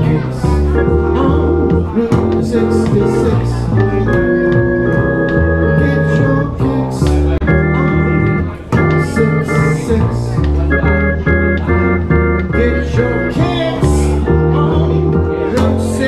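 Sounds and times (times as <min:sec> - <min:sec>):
organ playing short chords: 0:00.0 - 0:16.0
upright bass: 0:00.0 - 0:16.0.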